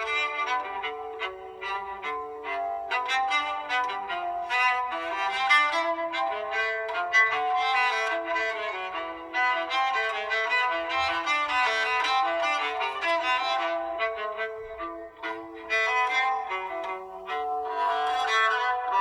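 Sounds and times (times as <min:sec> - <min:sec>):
phone alarm bowed string melody: 0:00.0 - 0:19.0.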